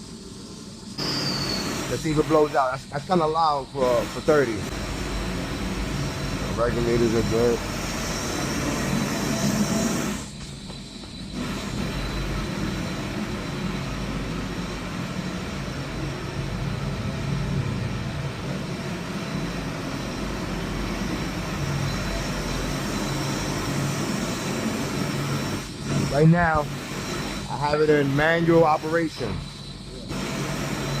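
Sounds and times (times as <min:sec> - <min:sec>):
gas boiler burner roaring: 0:00.0 - 0:31.0.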